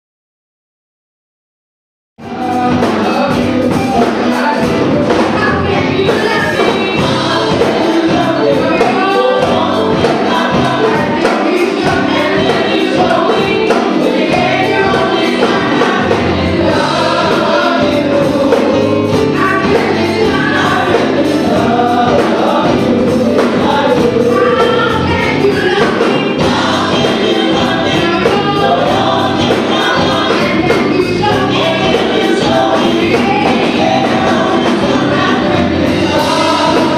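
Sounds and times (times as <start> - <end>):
gospel choir singing: 2.2 - 36.9
live band drums: 2.2 - 36.9.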